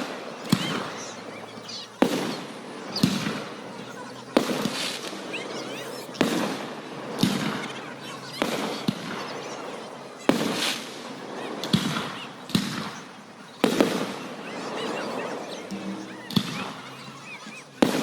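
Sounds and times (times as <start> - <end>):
fireworks bursting with crackle: 0.0 - 18.0.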